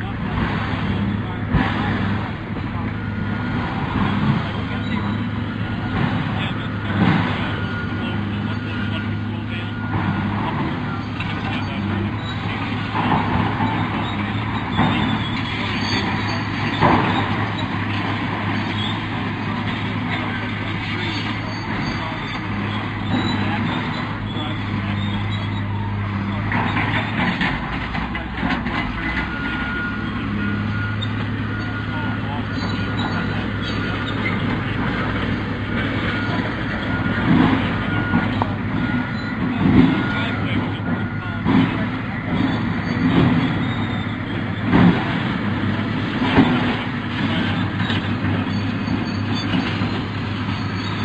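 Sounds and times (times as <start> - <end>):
bulldozer engine humming: 0.0 - 51.0.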